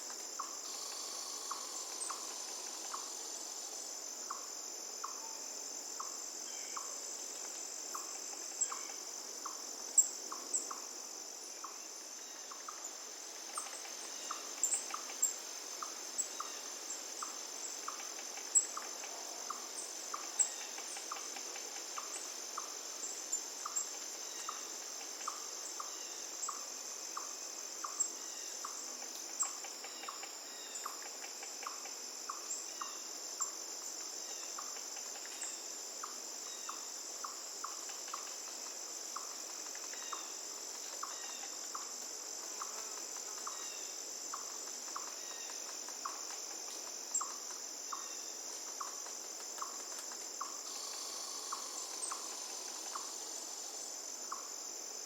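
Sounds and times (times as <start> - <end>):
crickets chorus: 0.0 - 55.0.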